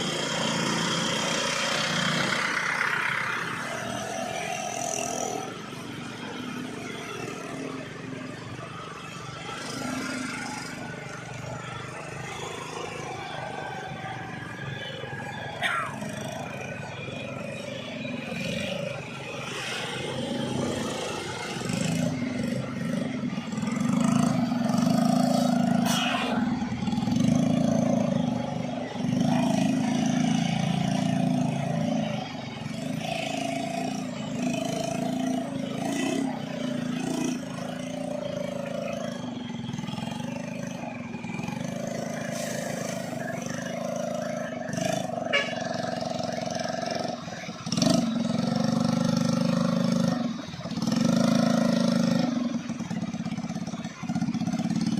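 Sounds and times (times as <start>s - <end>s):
truck engines labouring uphill: 0.0s - 54.9s.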